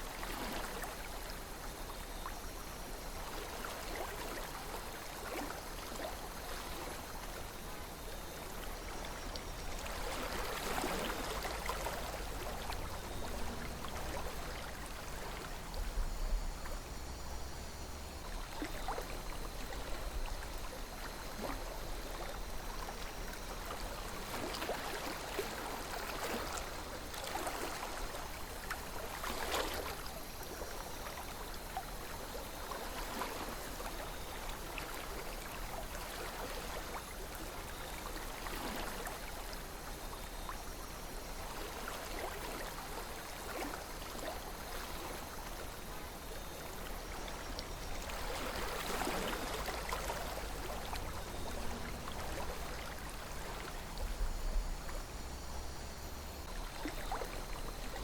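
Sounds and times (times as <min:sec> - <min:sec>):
small water splashes: 0:00.0 - 0:02.5, 0:03.1 - 0:15.9, 0:18.2 - 0:58.0
river water trickling and gurgling: 0:00.0 - 0:58.0.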